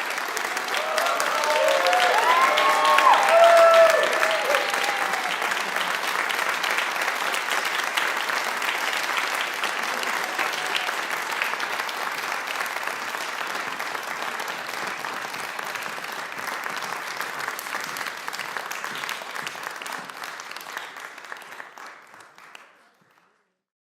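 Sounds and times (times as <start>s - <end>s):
audience applauding: 0.0s - 23.4s.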